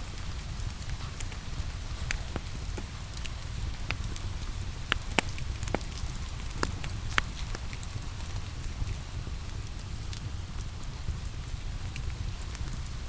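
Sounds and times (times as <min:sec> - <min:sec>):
rain hissing: 0:00.0 - 0:13.0
wood fire crackling: 0:00.0 - 0:13.0.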